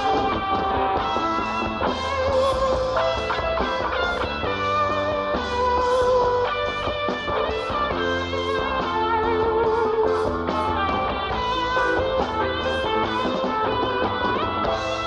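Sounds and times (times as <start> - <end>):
bass guitar: 0.0 - 15.0
drums: 0.0 - 15.0
lead guitar holding long notes: 0.0 - 15.0.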